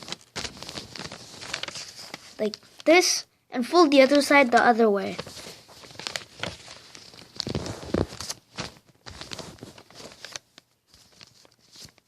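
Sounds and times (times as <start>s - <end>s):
paper rustling and crinkling: 0.0s - 3.0s, 3.8s - 12.0s.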